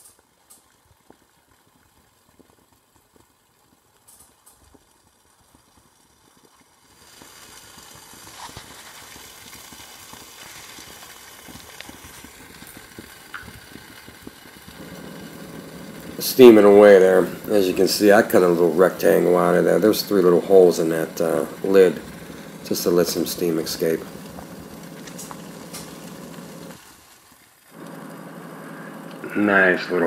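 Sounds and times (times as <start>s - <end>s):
stove burning with rushing hiss: 0.0s - 30.0s.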